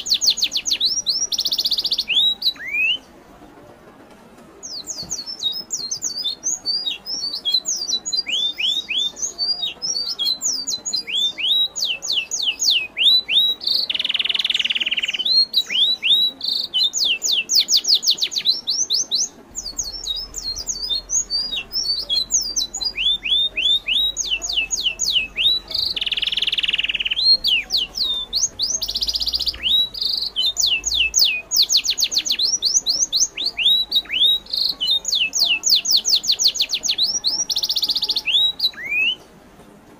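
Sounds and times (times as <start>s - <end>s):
birds chirping: 0.0s - 39.5s.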